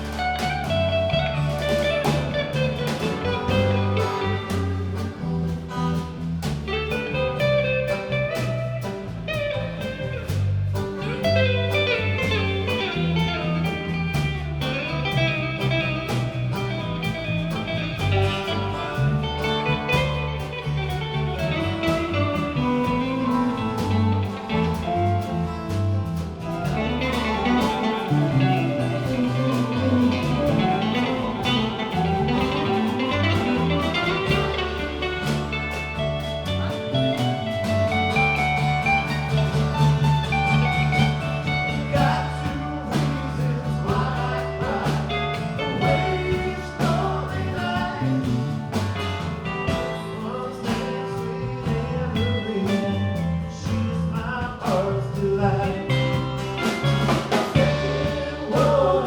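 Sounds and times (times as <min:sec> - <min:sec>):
guitar lines: 0:00.0 - 0:59.0
live band playing: 0:00.0 - 0:59.0.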